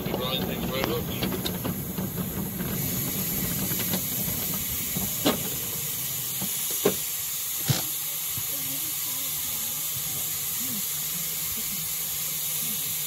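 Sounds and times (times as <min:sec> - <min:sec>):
steam locomotive hissing: 0:00.0 - 0:13.0
train cars rumbling on track: 0:00.0 - 0:13.0.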